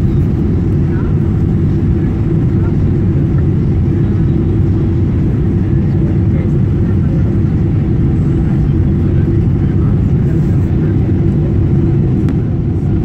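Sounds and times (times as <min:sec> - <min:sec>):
jet airliner cabin noise: 0:00.0 - 0:13.0.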